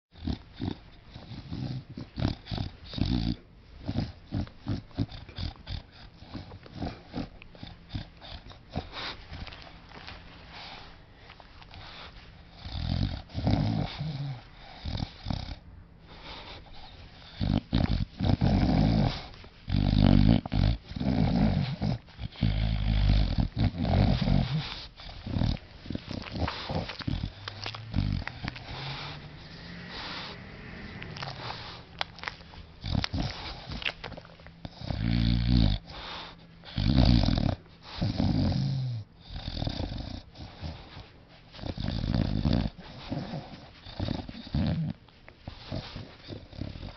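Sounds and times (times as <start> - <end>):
dog snoring: 0.2 - 11.0, 11.6 - 46.9.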